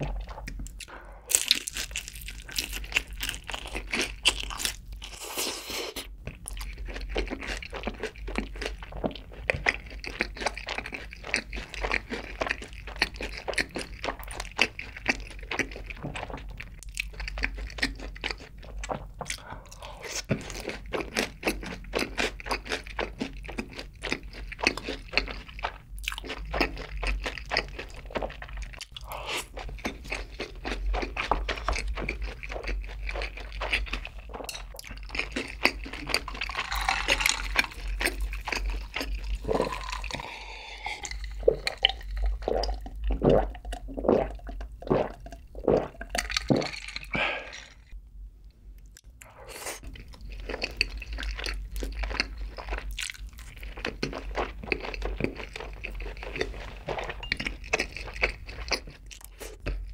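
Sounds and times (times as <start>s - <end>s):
chewing crunchy food: 0.0s - 48.0s, 48.8s - 59.9s.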